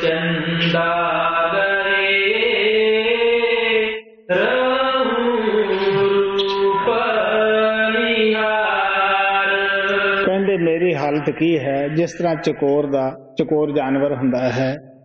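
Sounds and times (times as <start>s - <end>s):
man chanting a hymn: 0.0s - 14.9s.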